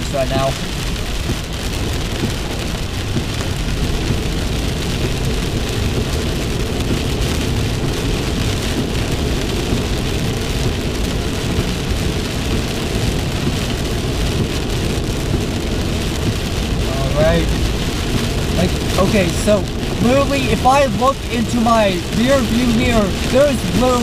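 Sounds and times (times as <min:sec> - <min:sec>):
heavy rain on car roof: 0:00.0 - 0:24.0
tyre and road noise: 0:00.0 - 0:24.0.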